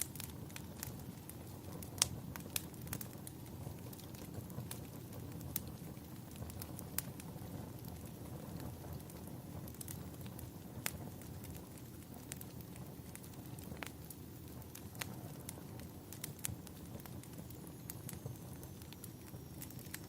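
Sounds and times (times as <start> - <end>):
fire pops: 0.0 - 20.0
low rumble of burning: 0.0 - 20.0
wood fire crackling: 0.0 - 20.0.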